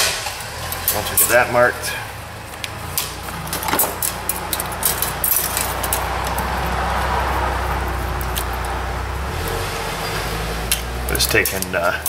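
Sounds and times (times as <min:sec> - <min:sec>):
engine humming: 0:00.0 - 0:12.0
hand tools clinking on metal: 0:00.6 - 0:12.0.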